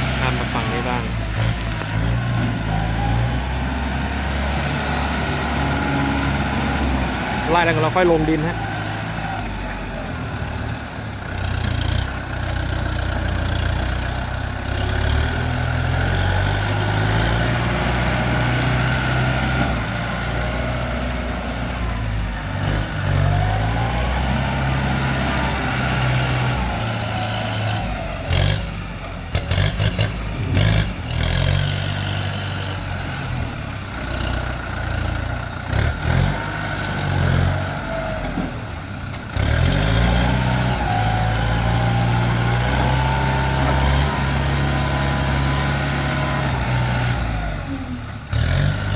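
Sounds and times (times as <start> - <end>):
tractor diesel engine under load: 0.0 - 48.9.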